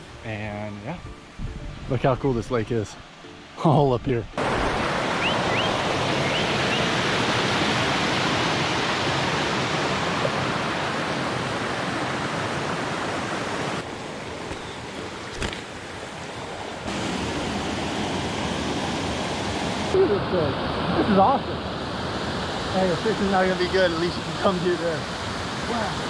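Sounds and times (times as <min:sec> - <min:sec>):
rushing stream or waterfall: 0:00.0 - 0:26.0.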